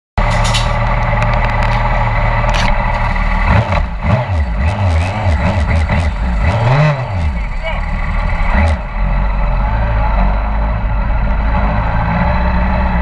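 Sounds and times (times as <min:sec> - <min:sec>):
motorcycle engine idling and revving: 0:00.2 - 0:13.0.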